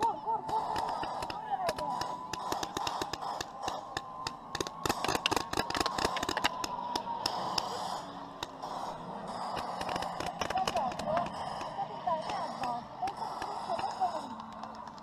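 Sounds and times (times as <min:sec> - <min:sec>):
pyrotechnics crackling and popping: 0:00.0 - 0:15.0.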